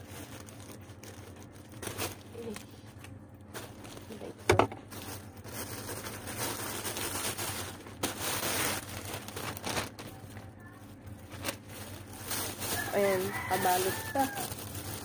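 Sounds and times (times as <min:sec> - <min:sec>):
plastic pouch rustling: 0:00.0 - 0:15.0.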